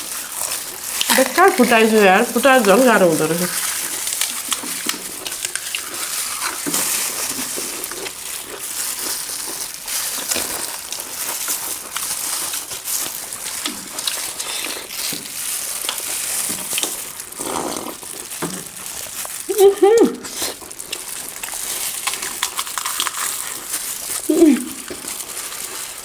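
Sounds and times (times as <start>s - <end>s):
crunching and chewing of crisp shells: 0.0s - 26.0s.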